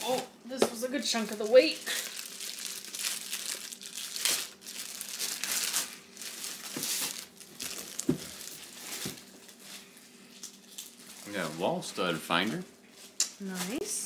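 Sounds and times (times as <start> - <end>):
packaging crinkling and rustling: 1.1 - 13.8.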